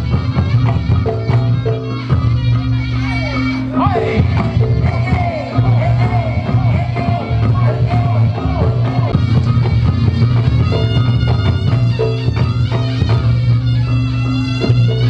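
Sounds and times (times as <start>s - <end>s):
heavy low bass: 0.0s - 15.0s
wavering high melody: 0.0s - 15.0s.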